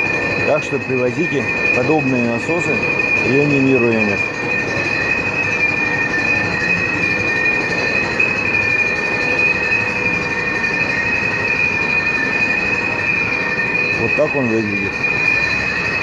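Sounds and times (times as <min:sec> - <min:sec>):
machine whining over a hum: 0:00.0 - 0:16.0.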